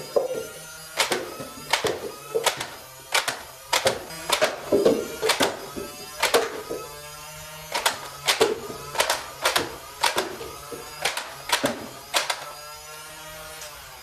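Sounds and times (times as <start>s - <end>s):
darts striking paper cups: 0.0s - 7.0s, 7.7s - 12.5s
foam dart blaster clacks: 0.1s - 6.9s, 7.7s - 12.5s.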